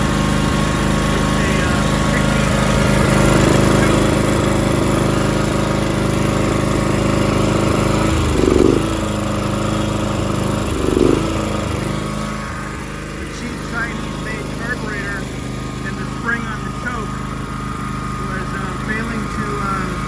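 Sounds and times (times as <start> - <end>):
lawn tractor engine idling roughly: 0.0 - 20.0.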